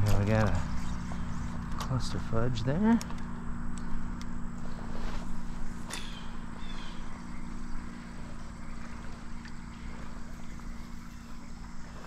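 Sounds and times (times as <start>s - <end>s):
stream water rippling: 0.0s - 12.0s.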